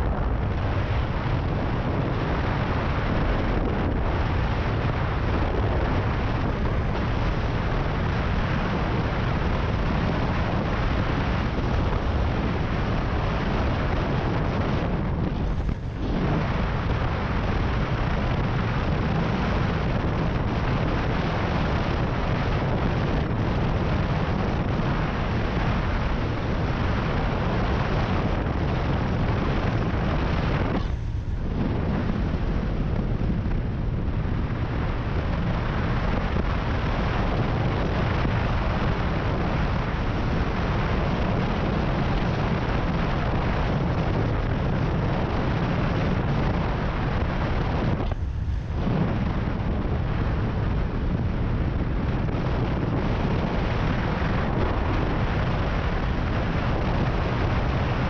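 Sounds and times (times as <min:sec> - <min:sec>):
motorcycle engine and tyre noise: 0:00.0 - 0:58.0
wind on microphone: 0:00.0 - 0:58.0.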